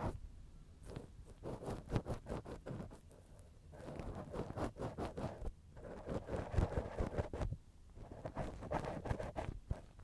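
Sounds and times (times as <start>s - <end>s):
scratching and rubbing at microphone: 0.0s - 0.2s, 0.8s - 10.0s.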